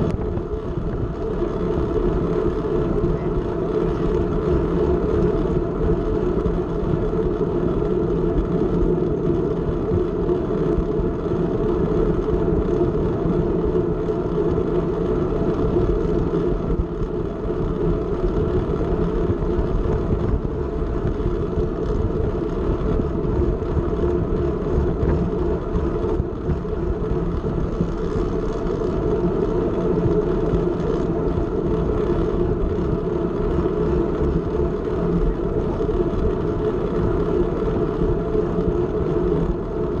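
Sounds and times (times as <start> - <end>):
bike tyres on asphalt: 0.0 - 40.0
wind on microphone: 0.0 - 40.0.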